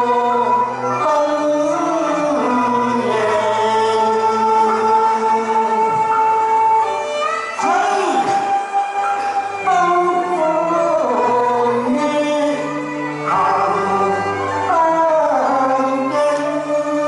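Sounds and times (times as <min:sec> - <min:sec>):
man singing into a microphone: 0:00.0 - 0:06.8, 0:09.6 - 0:17.0
instrumental accompaniment: 0:00.0 - 0:17.0.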